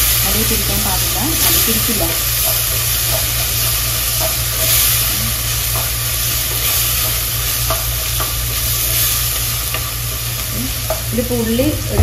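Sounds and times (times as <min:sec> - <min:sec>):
aromatics sizzling in oil: 0:00.0 - 0:12.0.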